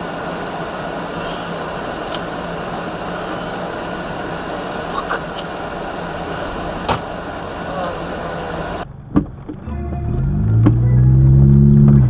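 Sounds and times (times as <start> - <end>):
vehicle road noise from inside: 0.0 - 12.0.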